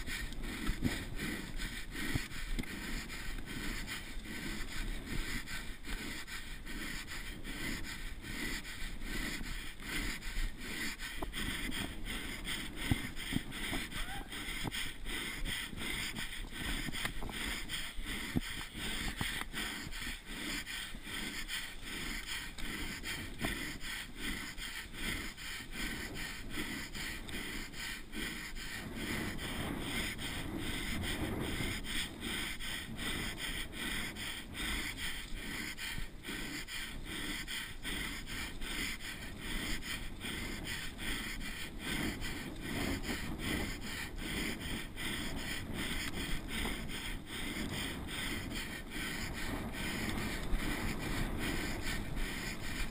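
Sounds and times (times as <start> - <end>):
person breathing hard: 0.0 - 52.9
tyres on dirt trail: 0.0 - 52.9.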